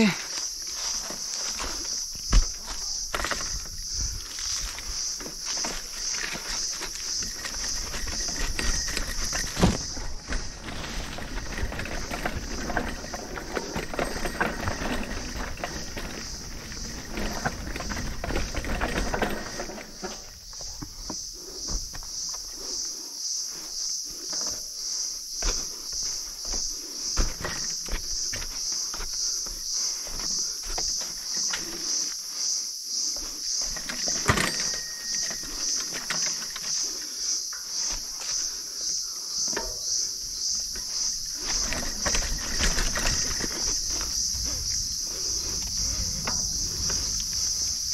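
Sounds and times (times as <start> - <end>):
insects buzzing: 0.0 - 47.9
bike rolling over rocky trail: 0.5 - 22.8, 23.5 - 32.2, 33.1 - 47.9.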